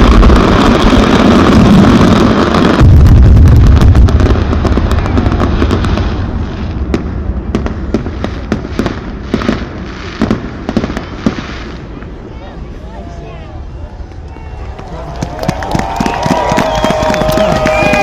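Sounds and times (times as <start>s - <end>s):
crackling firework pops: 0.0s - 12.1s, 15.2s - 18.0s
low rumble of firework bursts: 0.0s - 18.0s.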